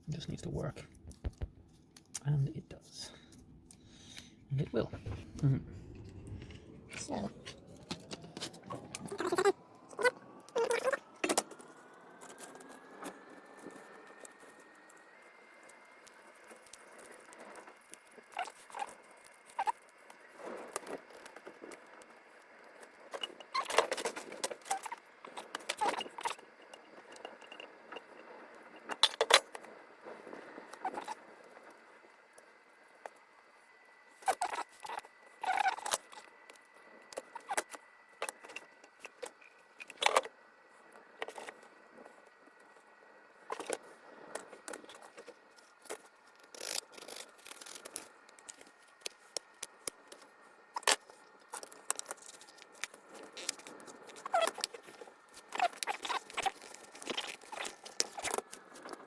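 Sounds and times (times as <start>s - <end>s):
faint high whine: 0.0s - 58.2s.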